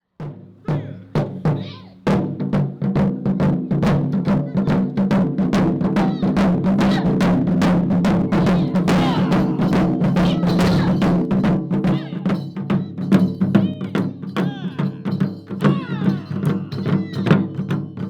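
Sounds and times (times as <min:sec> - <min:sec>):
taiko drums beating: 0:00.2 - 0:18.0.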